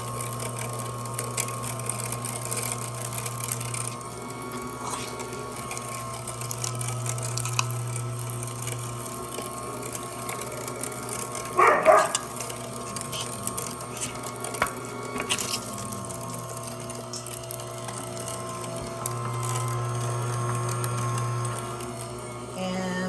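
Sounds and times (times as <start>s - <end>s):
juicer motor humming: 0.0s - 23.0s.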